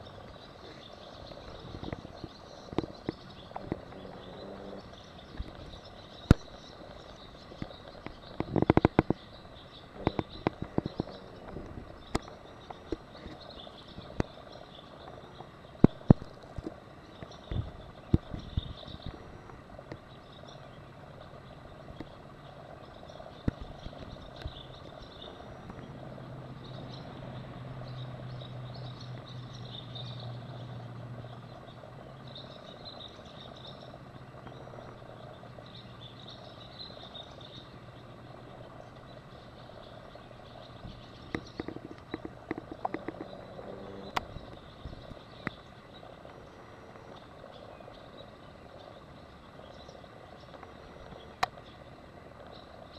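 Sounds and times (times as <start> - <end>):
low hum: 0.0 - 52.9.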